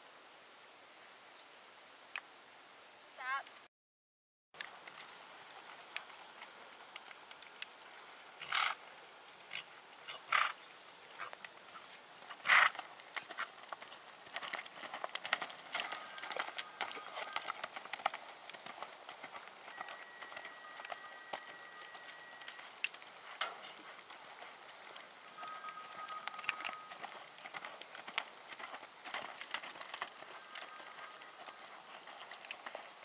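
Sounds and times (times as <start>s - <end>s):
horse hoofbeats on dirt: 4.6s - 8.8s, 9.5s - 33.0s.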